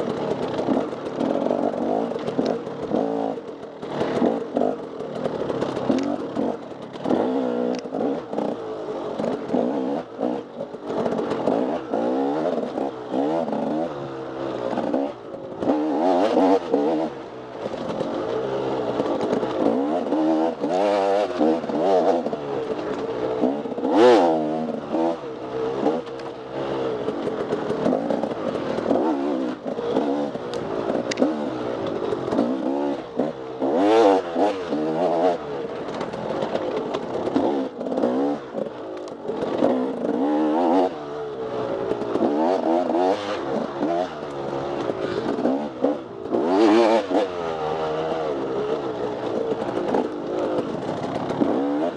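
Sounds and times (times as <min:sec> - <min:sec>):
clattering and knocks from bike: 0:00.0 - 0:13.8, 0:14.5 - 0:25.0, 0:25.7 - 0:47.4, 0:48.6 - 0:51.9
dirt bike engine revving: 0:00.0 - 0:51.9.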